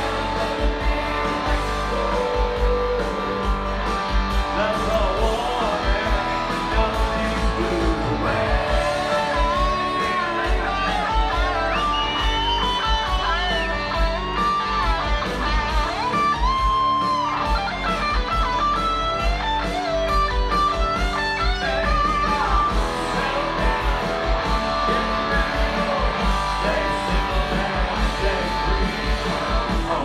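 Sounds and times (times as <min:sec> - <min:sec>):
guitar lead line: 0:00.0 - 0:30.0
live country band playing: 0:00.0 - 0:30.0.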